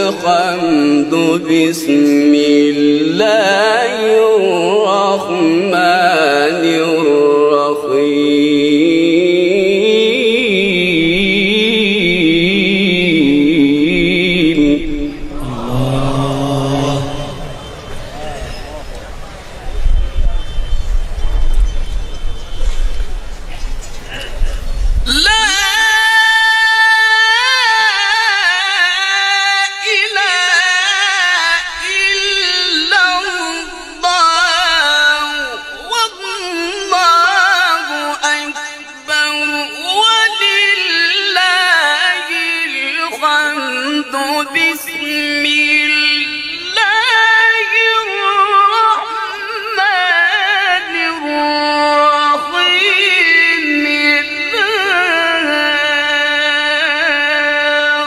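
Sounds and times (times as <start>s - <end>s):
man reciting in melodic style: 0.0s - 19.2s, 24.1s - 58.0s.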